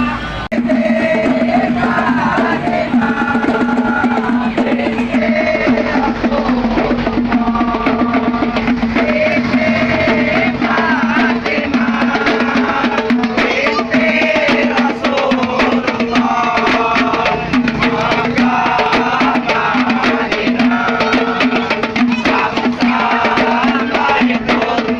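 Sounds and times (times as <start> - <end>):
drum and hand percussion: 0.0 - 24.9.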